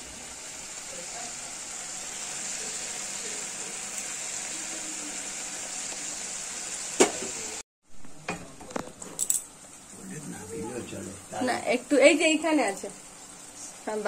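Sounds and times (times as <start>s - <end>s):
paste sizzling in a pan: 0.0s - 7.6s, 9.5s - 14.0s.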